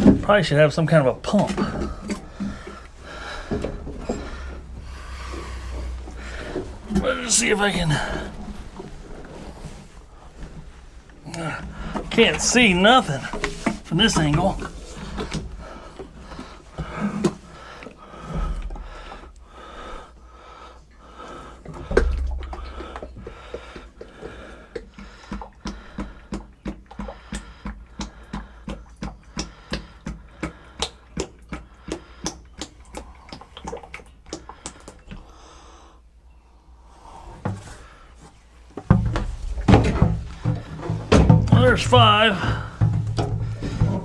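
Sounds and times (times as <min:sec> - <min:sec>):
bucket dull thumps: 0:00.0 - 0:19.9, 0:21.6 - 0:35.2, 0:37.4 - 0:44.0
oil glugging from bucket: 0:00.0 - 0:35.7, 0:37.2 - 0:44.0.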